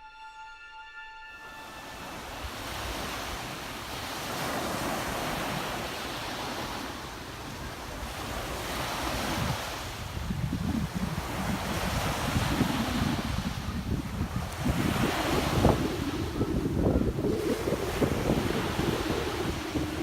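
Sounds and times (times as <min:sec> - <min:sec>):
waves breaking on beach: 0:01.6 - 0:20.0.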